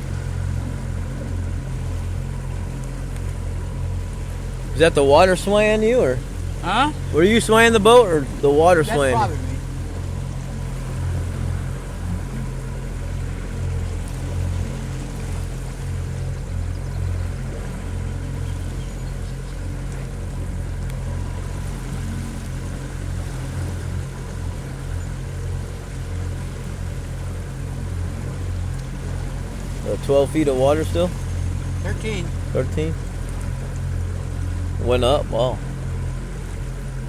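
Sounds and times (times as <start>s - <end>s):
motorboat engine droning: 0.0s - 37.0s.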